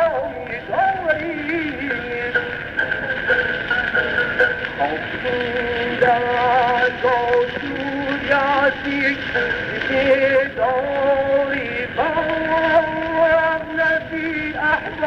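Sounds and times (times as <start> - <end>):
ornamented melody on old recording: 0.0 - 15.0
record surface hiss: 0.0 - 15.0.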